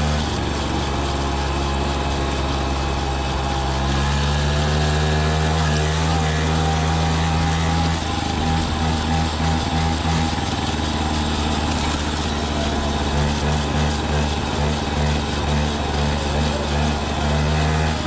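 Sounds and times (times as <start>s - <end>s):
moped engine running: 0.0s - 18.0s.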